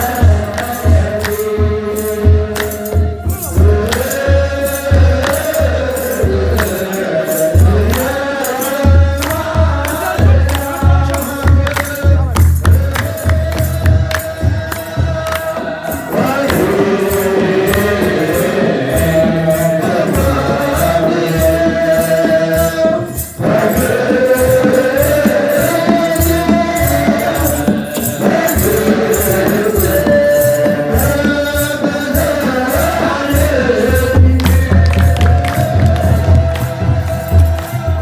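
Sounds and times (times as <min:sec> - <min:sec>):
drum beat: 0:00.0 - 0:38.0
sistrum jingling: 0:00.0 - 0:38.0
voices chanting together: 0:00.0 - 0:38.0.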